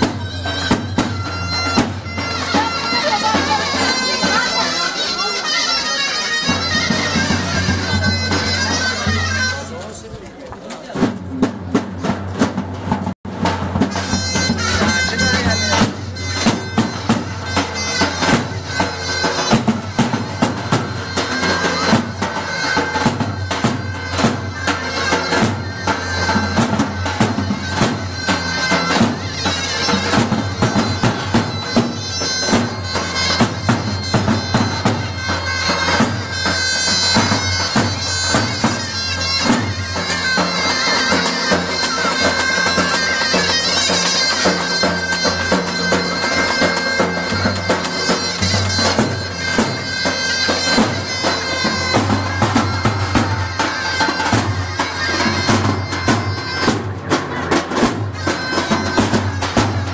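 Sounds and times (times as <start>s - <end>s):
reedy zurna melody: 0.0s - 10.4s, 13.4s - 59.9s.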